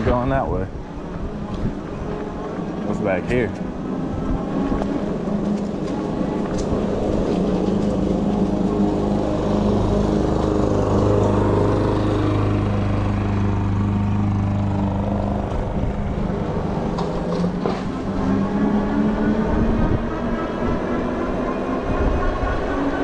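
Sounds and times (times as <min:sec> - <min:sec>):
tyre and wind noise: 0:00.0 - 0:23.0
electric bike motor hum: 0:00.7 - 0:23.0.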